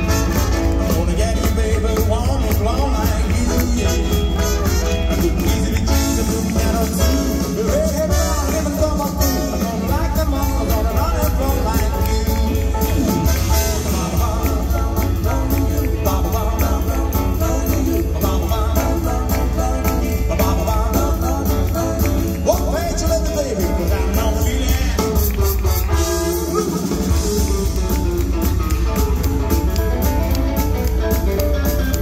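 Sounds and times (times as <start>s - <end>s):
man singing: 0.0s - 32.0s
rock and roll band playing: 0.0s - 32.0s.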